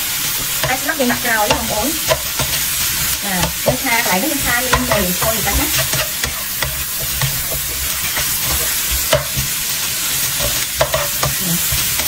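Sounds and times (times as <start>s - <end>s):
spatula scraping a pan: 0.0s - 12.0s
squid sizzling in a wok: 0.0s - 12.0s.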